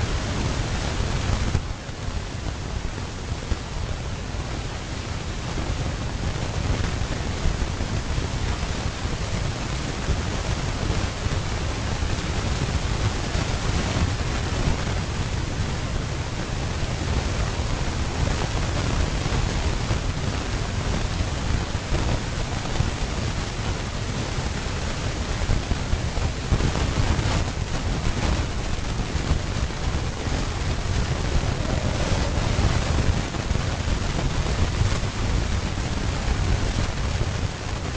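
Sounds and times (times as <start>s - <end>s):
hiss: 0.0s - 37.8s
low rumbling noise: 0.0s - 37.9s.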